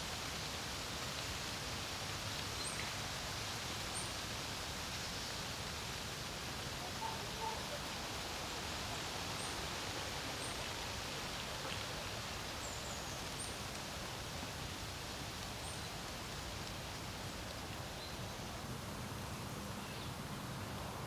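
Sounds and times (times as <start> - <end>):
wind with rustle: 0.0 - 21.0.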